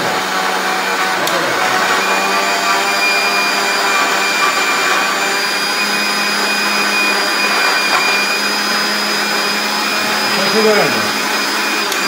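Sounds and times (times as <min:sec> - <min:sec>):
mixer grinder running: 0:00.0 - 0:12.0.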